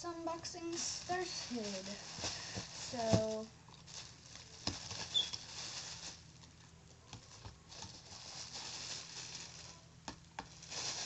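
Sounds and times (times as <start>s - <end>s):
rustling and clicks of handling: 0.5s - 11.0s.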